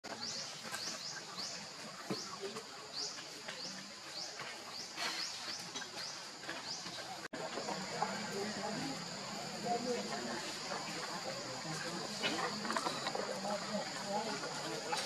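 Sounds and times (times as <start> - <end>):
outdoor background hiss: 0.1 - 15.0.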